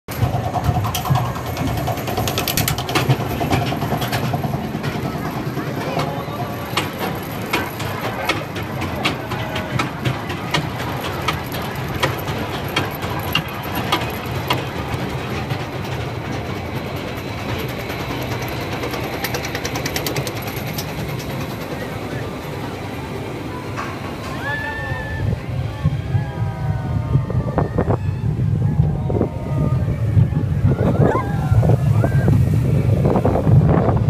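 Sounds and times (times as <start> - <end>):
lift chain rumble: 0.1 - 34.0
roller coaster rolling on track: 0.1 - 34.0.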